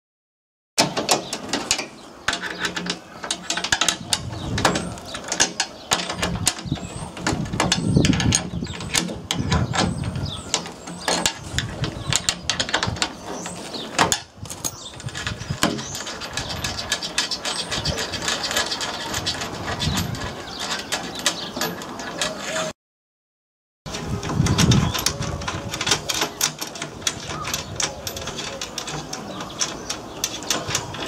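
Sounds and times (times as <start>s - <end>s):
spanner clicking on metal bolts: 0.8s - 22.7s, 23.9s - 31.0s.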